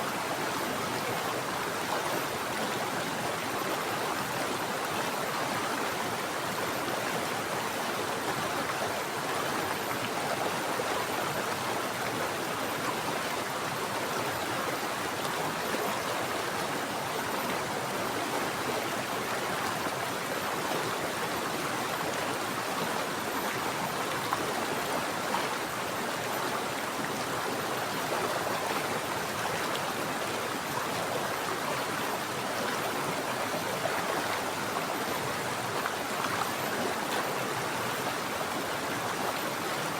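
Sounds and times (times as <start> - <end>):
mountain water flowing: 0.1 - 39.9.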